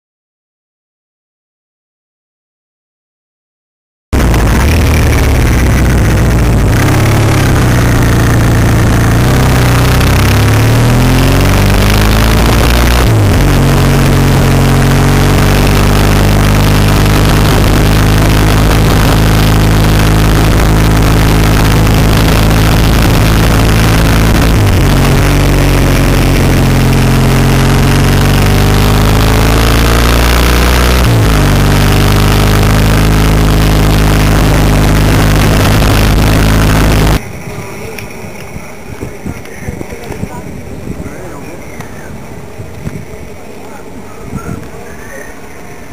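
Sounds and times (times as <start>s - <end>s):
motorcycle engine running: 4.2s - 45.9s.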